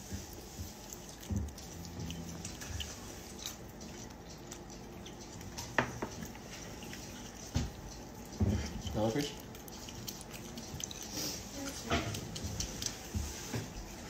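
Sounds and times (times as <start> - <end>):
monkey hands tapping and rustling: 0.0 - 14.0.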